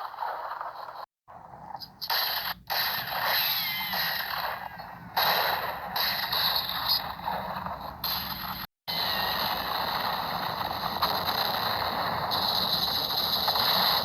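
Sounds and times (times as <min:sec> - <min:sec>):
cartoon gunfire bursts: 0:02.0 - 0:14.0.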